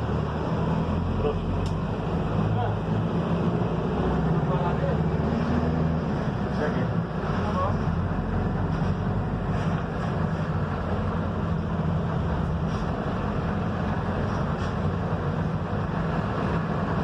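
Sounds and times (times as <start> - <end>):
bus engine running: 0.0 - 17.0
road noise: 0.0 - 17.0.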